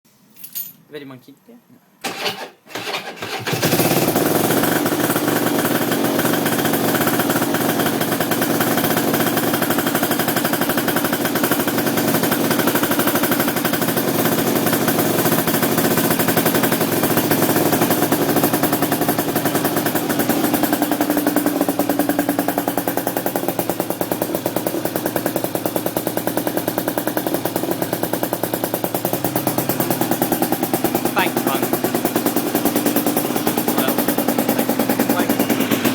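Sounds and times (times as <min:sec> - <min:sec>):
two-stroke engine idling: 0:02.0 - 0:35.9.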